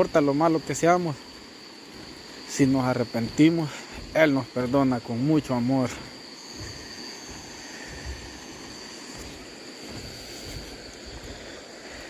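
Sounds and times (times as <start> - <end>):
crickets chirring: 0.0 - 12.0
rushing hiss: 0.0 - 12.0.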